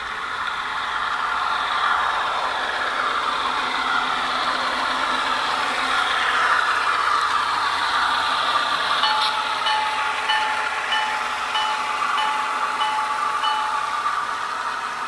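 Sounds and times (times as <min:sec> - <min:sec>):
simulated diesel engine from speakers: 0:00.0 - 0:15.0.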